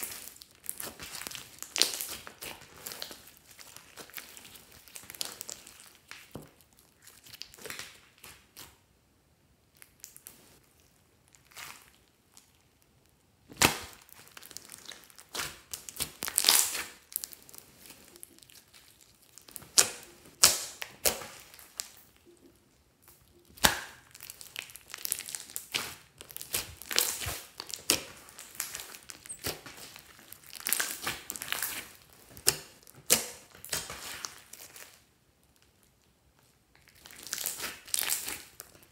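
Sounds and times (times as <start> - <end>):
slime squelching: 0.0 - 8.8, 9.8 - 35.0.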